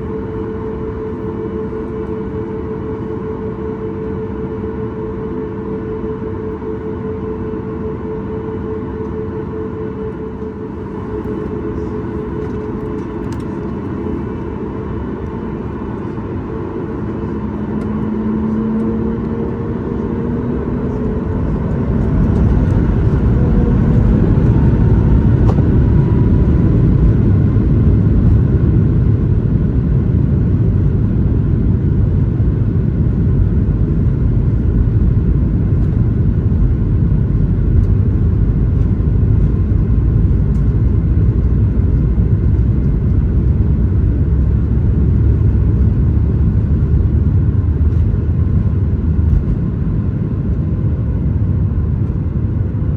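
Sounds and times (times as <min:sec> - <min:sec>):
jet engine cabin rumble: 0:00.0 - 0:52.9.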